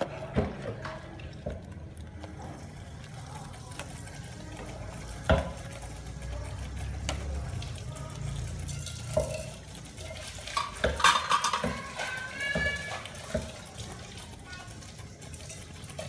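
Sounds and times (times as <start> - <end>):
boiling water: 0.0 - 16.0
metal ladle stirring in pot: 0.0 - 16.0.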